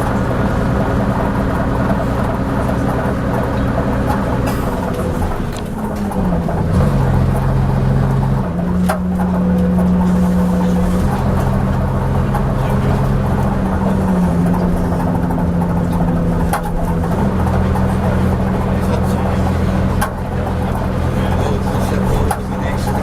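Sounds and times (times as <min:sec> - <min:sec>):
bus engine droning: 0:00.0 - 0:23.0
sharp clanks: 0:01.9 - 0:23.0.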